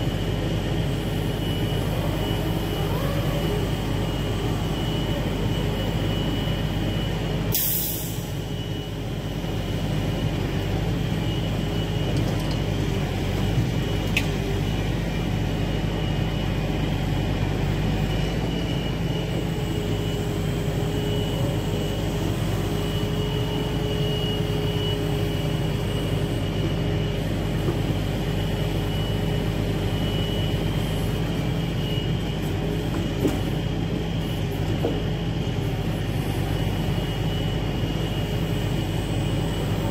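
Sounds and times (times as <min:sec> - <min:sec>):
diesel engine running: 0:00.0 - 0:39.9
faint hydraulic whine: 0:00.0 - 0:39.9.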